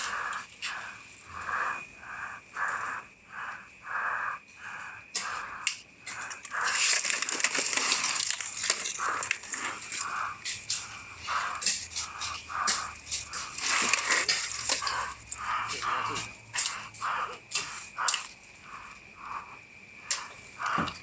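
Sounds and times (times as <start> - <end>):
person breathing hard: 0.0 - 21.0.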